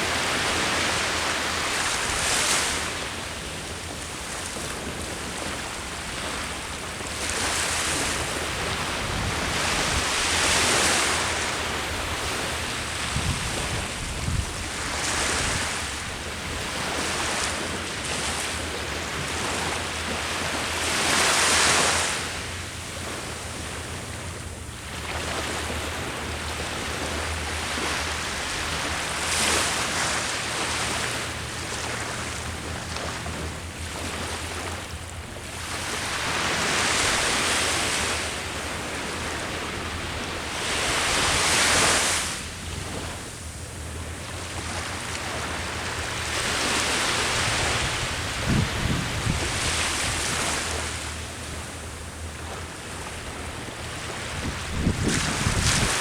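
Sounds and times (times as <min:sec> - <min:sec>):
sea waves breaking on shore: 0:00.0 - 0:56.0
wind rumble on microphone: 0:00.0 - 0:56.0.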